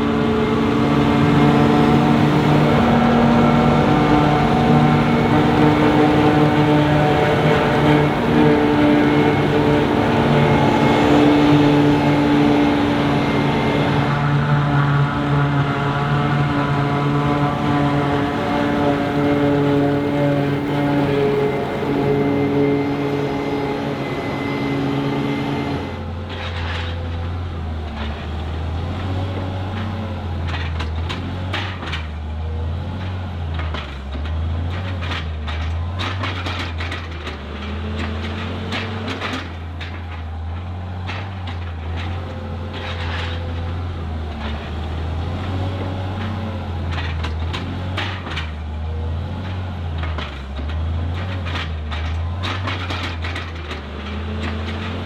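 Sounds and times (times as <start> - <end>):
diesel machinery droning: 0.0 - 55.0
knocks and clatter: 0.0 - 55.0.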